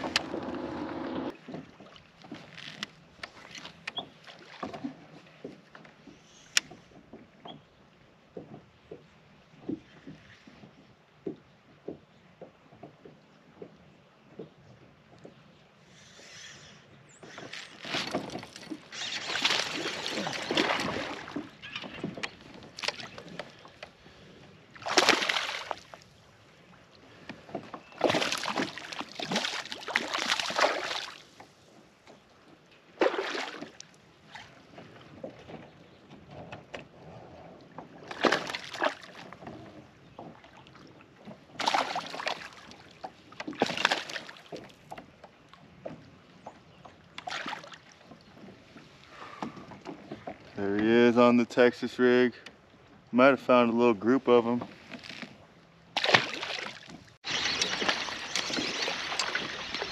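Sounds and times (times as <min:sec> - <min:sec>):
water splashing against kayak: 0:00.0 - 0:07.6, 0:17.1 - 0:51.7, 0:54.0 - 0:59.9
water lapping: 0:00.0 - 0:51.4, 0:52.0 - 0:59.9.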